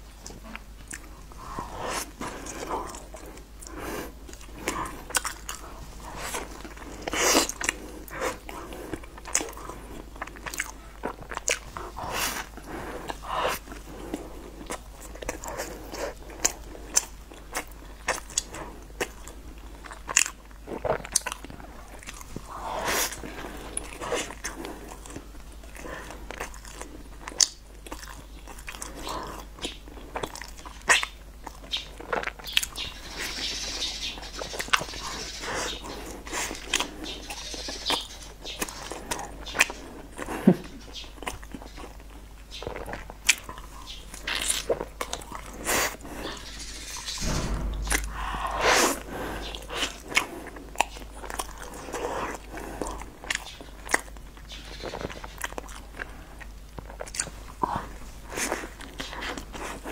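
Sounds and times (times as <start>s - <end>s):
chewing and crunching pastry: 0.0s - 47.3s, 48.8s - 59.9s.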